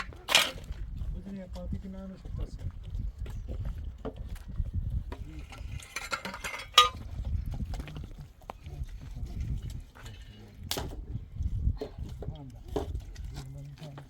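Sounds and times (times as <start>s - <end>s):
tool scraping through mortar: 0.0s - 1.8s, 2.5s - 14.0s.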